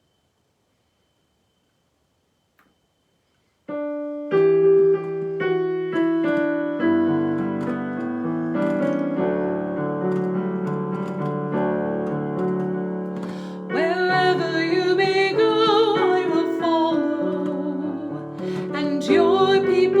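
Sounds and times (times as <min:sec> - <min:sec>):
piano playing held chords: 0:03.7 - 0:20.0.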